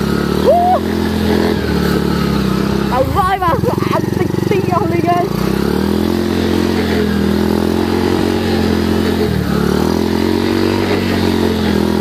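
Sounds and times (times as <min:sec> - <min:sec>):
motocross bike engine running hard: 0:00.0 - 0:12.0.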